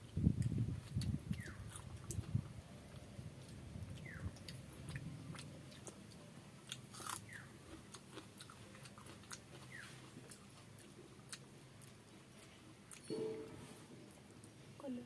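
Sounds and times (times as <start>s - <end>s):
person chewing food: 0.3s - 13.1s.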